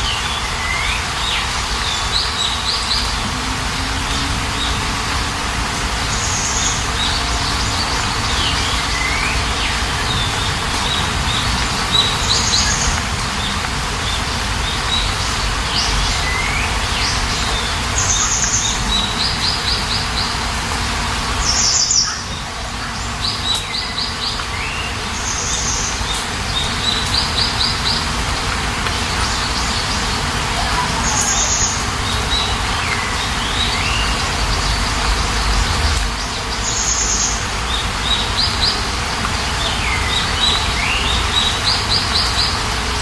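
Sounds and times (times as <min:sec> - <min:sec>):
rain hiss: 0:00.0 - 0:43.0
songbirds chirping: 0:00.0 - 0:43.0.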